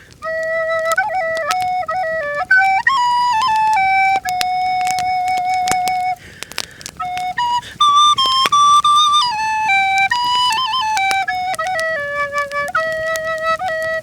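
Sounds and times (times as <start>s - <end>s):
flute playing folk melody: 0.0s - 14.0s
sharp clicks: 0.0s - 14.0s.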